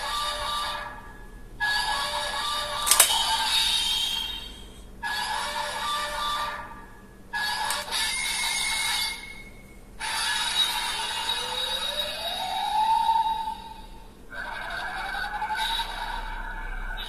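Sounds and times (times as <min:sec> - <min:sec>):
toy electronic sound effects: 0:00.0 - 0:01.0, 0:01.6 - 0:06.7, 0:07.4 - 0:17.0.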